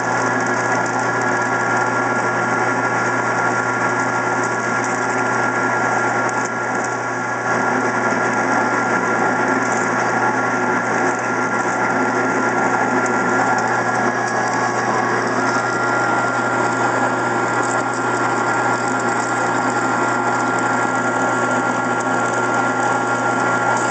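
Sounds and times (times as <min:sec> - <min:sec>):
metal lathe running: 0:00.0 - 0:23.9.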